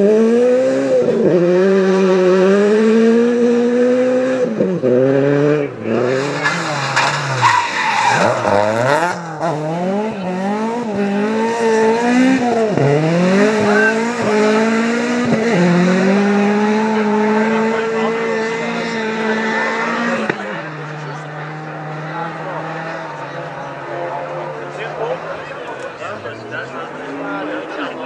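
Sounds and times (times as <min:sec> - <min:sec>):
rally car engines revving: 0:00.0 - 0:28.0.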